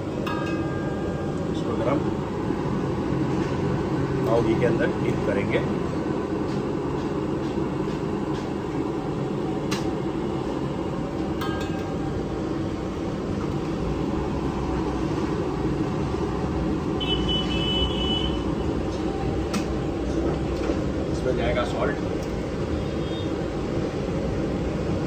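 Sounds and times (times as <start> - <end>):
low rumble of burner: 0.0 - 25.0.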